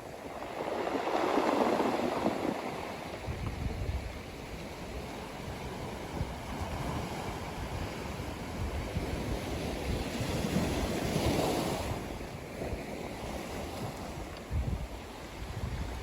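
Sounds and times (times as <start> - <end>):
ocean waves on sandy beach: 0.0 - 16.0.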